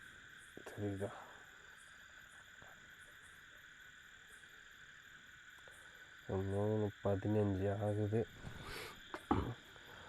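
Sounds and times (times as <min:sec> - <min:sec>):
insects and frogs chorus: 0:00.0 - 0:10.0.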